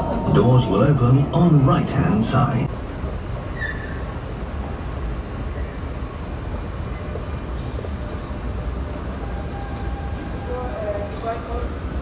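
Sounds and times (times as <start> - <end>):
train wheels and motors rumbling: 0.0 - 12.0.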